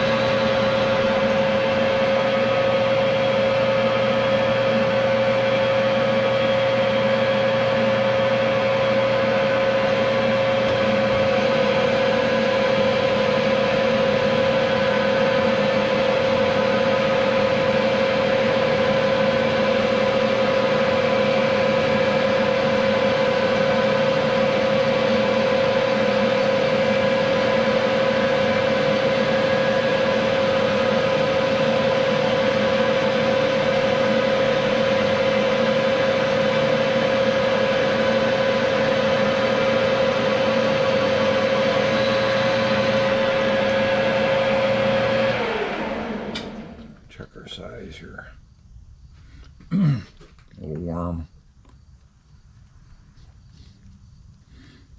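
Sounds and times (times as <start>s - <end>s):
machine tool whining: 0.0s - 47.2s.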